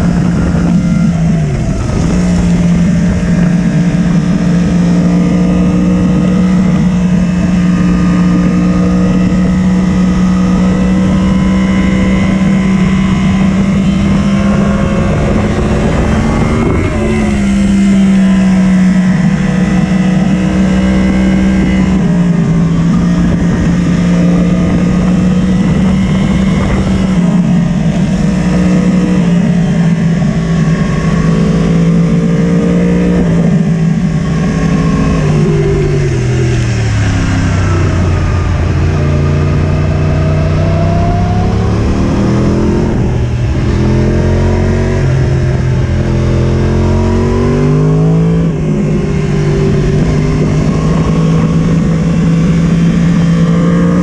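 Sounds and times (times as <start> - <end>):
motorcycle engine revving: 0.0 - 54.0
wind on microphone: 0.0 - 54.0.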